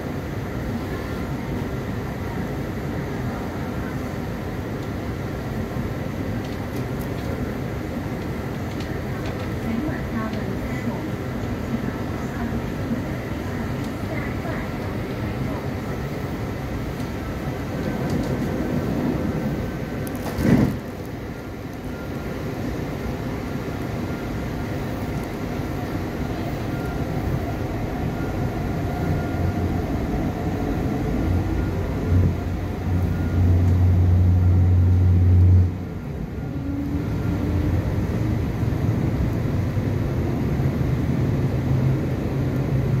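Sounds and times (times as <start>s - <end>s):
train wheels and motors rumbling: 0.0s - 43.0s.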